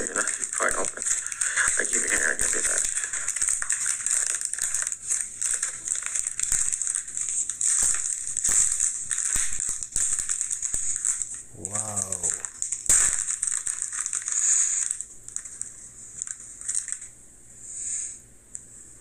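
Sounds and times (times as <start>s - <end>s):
wrapper crinkling and crackling: 0.0s - 17.2s.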